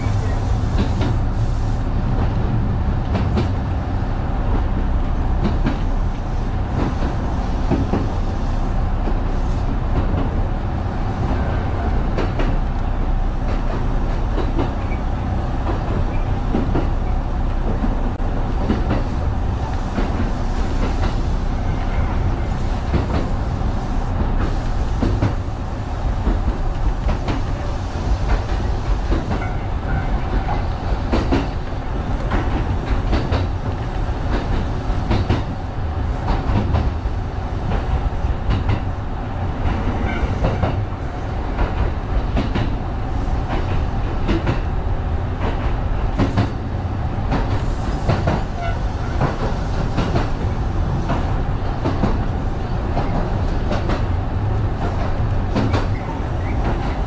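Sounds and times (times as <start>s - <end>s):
rail joint clicks: 0.0s - 57.0s
train wheels rumbling on rail: 0.0s - 57.0s.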